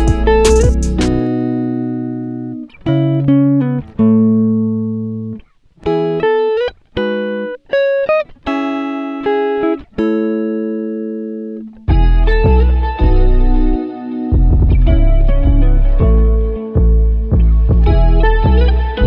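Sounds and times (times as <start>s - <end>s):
plucked guitar notes and chords: 0.0s - 19.0s.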